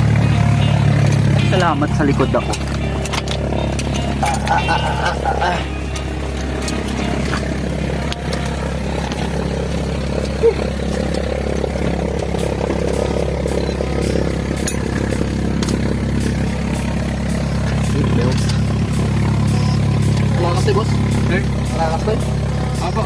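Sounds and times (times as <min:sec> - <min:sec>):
steady engine drone: 0:00.0 - 0:23.0.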